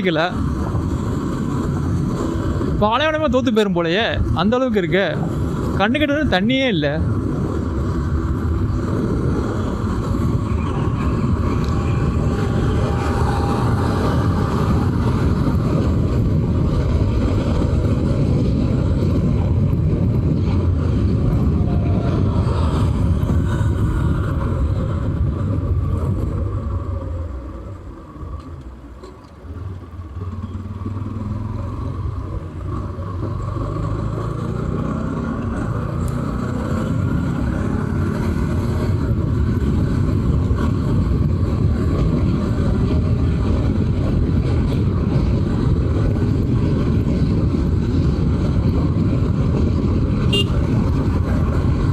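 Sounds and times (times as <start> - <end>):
motorcycle engine riding: 0.0 - 51.9
road noise: 0.0 - 51.9.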